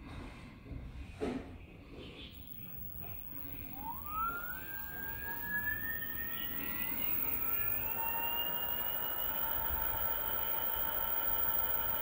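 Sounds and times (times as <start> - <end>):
electric hub motor whining: 2.4 - 12.0.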